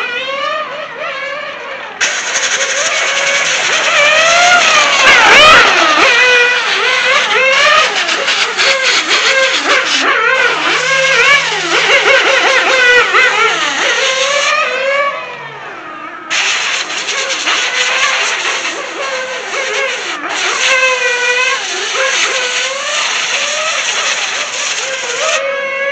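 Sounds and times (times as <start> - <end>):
rc car engine high revs: 0.0 - 25.9.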